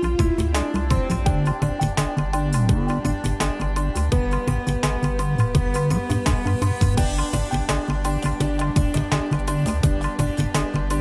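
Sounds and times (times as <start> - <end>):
background music with quick beat: 0.0 - 11.0.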